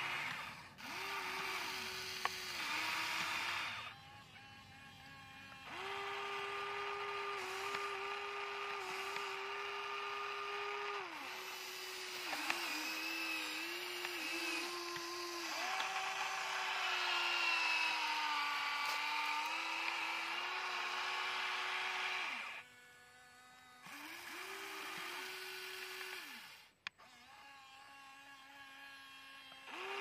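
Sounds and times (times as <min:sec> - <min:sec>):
toy electric motors whining: 0:00.0 - 0:30.0.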